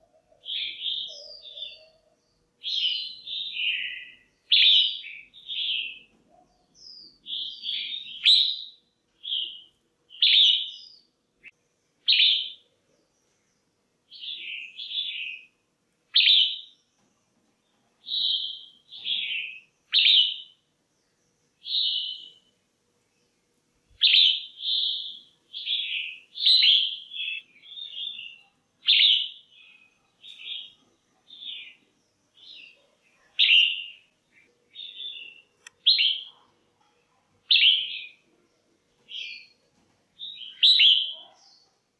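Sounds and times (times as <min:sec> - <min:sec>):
bird chirping calls: 0:00.0 - 0:17.0, 0:17.6 - 0:22.5, 0:23.1 - 0:39.6, 0:40.2 - 0:41.9.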